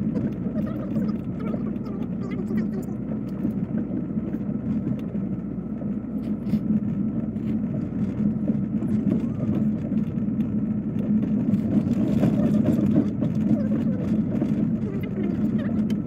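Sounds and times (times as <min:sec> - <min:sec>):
faint clicks and rattles: 0:00.0 - 0:16.0
train carriage low rumble: 0:00.0 - 0:16.0.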